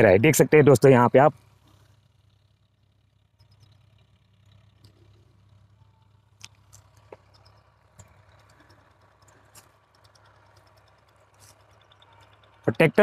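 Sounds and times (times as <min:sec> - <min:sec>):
faint tractor diesel engine: 0:00.0 - 0:13.0.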